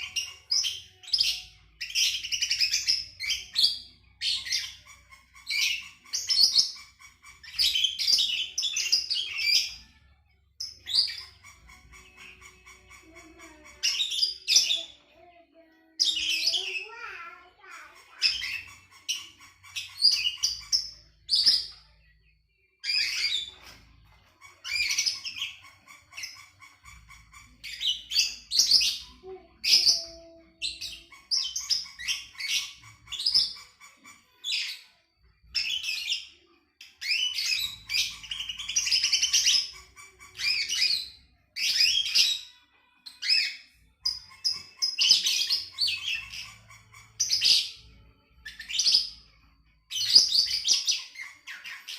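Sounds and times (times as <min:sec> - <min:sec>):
songbird chirping and trilling: 0:00.0 - 0:51.9.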